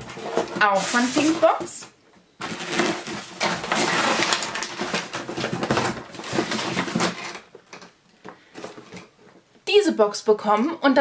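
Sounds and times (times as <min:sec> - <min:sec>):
cardboard and packing material rustling: 0:00.0 - 0:09.4.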